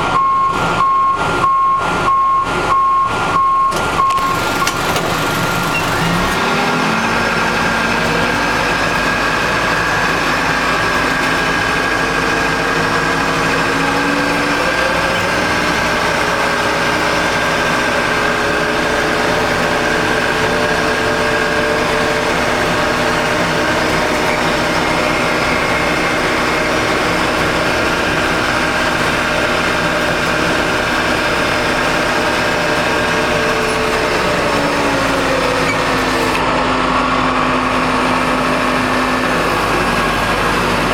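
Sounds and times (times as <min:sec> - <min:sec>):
diesel engine revving under load: 0:00.0 - 0:40.9.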